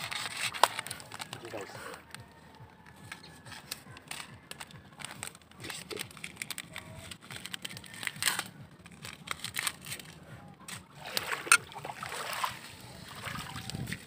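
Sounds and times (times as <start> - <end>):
clicks and crinkles: 0.0 - 11.6.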